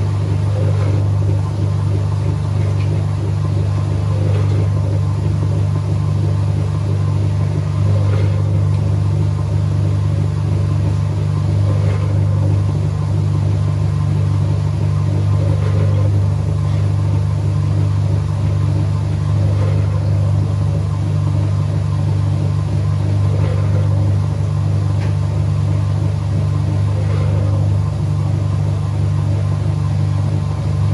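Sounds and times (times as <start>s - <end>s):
washing machine motor hum: 0.0s - 30.9s.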